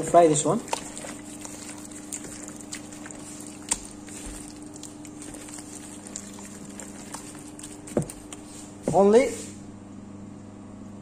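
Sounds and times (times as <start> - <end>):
hand squishing wet chicken: 0.0 - 9.6
steady low hum: 0.0 - 11.0.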